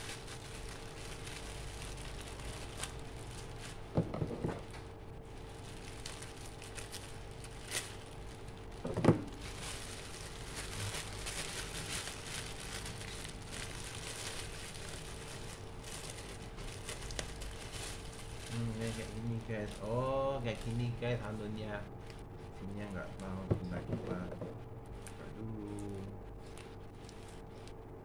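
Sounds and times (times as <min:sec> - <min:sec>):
parcel wrapping crinkling: 0:00.0 - 0:21.6, 0:26.4 - 0:27.9.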